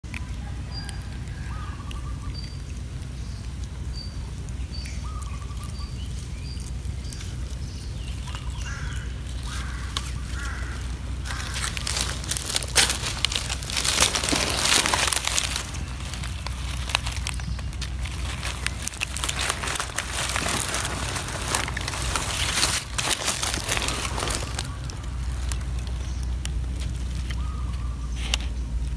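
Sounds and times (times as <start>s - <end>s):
dry leaves crackling and rustling: 0.0s - 28.9s
low wind rumble: 0.0s - 28.9s
small birds chirping: 0.0s - 28.9s.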